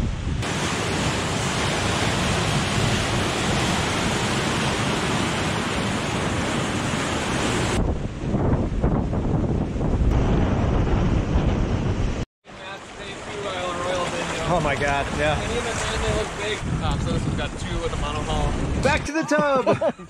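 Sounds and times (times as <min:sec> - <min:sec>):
surf washing over rocks: 0:00.0 - 0:09.0, 0:10.2 - 0:19.8
wind buffeting microphone: 0:00.0 - 0:12.2, 0:13.3 - 0:19.1.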